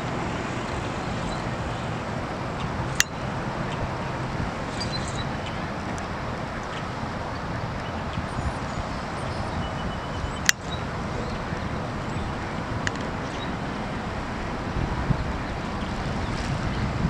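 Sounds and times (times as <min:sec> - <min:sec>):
rushing outdoor background noise: 0:00.0 - 0:17.0.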